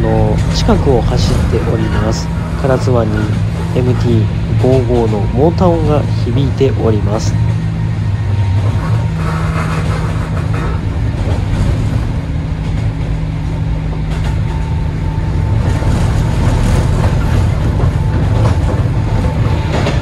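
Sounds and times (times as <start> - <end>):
electric train motor hum: 0.0 - 20.0
rail noise: 0.0 - 20.0.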